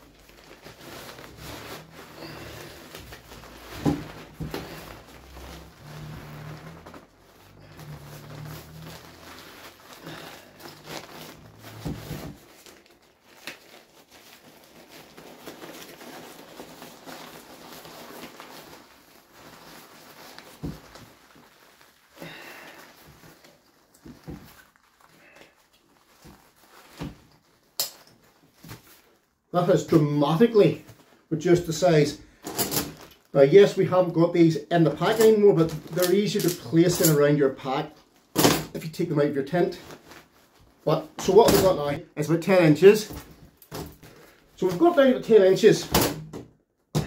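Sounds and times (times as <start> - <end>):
tent fabric rustling: 0.0 - 29.4, 35.0 - 45.6.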